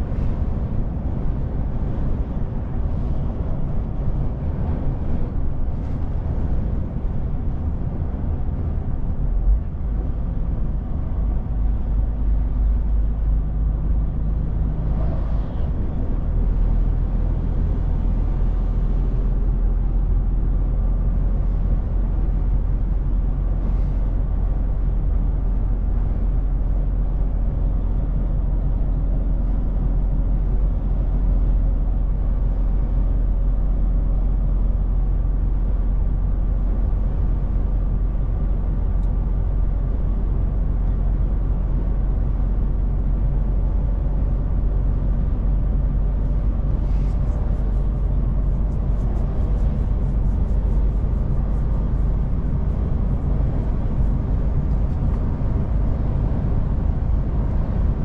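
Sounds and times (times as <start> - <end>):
diesel engine hum: 0.0 - 58.0
tyre and road noise: 0.0 - 58.0.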